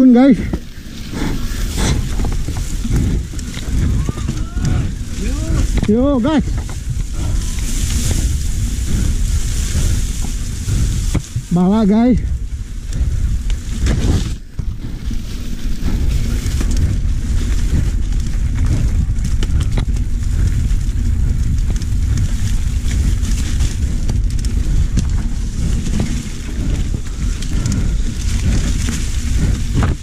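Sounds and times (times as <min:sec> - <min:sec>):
bike clicks and rattles: 0:00.0 - 0:30.0
bike tyres rumbling on dirt trail: 0:00.0 - 0:30.0
wind buffeting microphone: 0:00.0 - 0:30.0.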